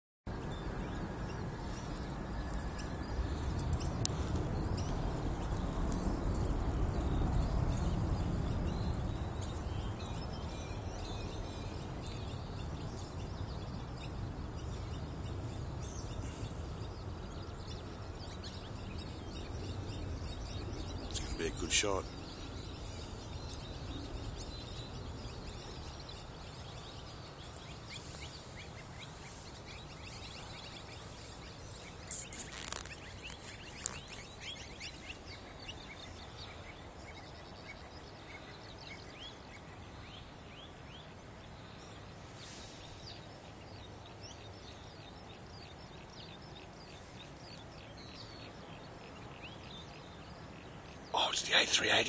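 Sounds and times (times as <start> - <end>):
birds chirping: 0.3 - 52.0
low background noise: 0.3 - 52.0.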